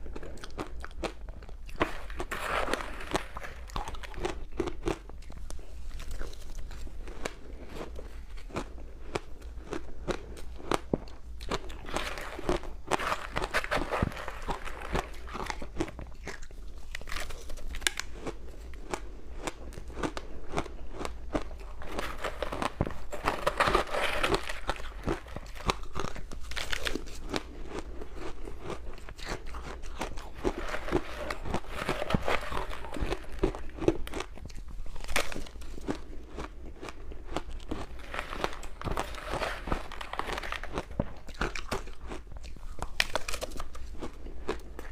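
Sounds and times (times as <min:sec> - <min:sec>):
ice crunching between teeth: 0:00.0 - 0:44.9.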